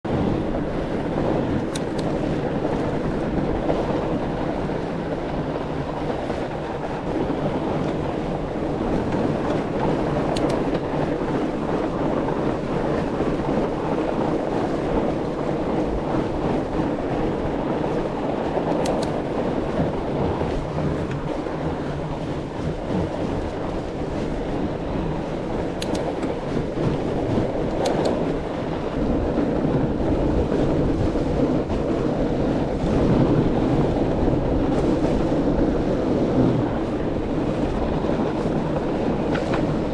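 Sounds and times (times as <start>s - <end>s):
bike tyres rumbling over snow: 0.0s - 39.9s.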